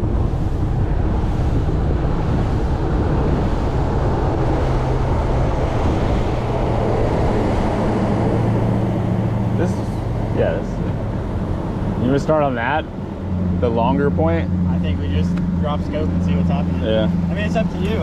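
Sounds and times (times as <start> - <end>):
outboard motor drone: 0.0 - 18.0
rushing wind and water: 0.0 - 18.0.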